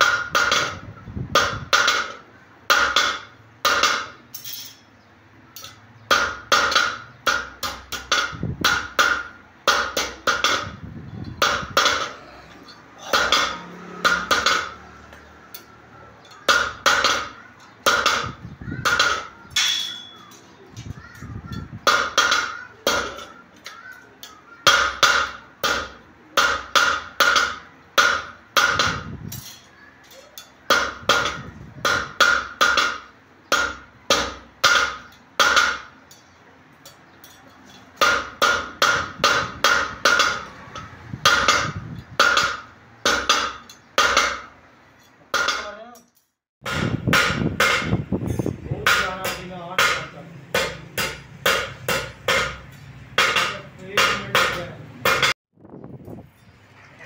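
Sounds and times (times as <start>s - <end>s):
hammer clanking on steel: 5.6s - 46.0s, 46.6s - 55.4s.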